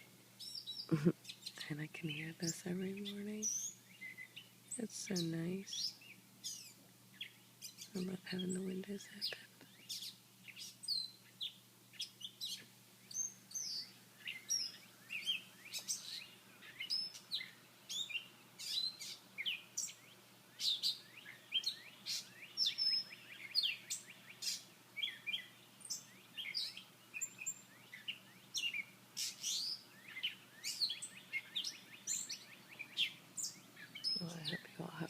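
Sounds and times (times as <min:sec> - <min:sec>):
songbirds chirping and singing: 0:00.0 - 0:35.0.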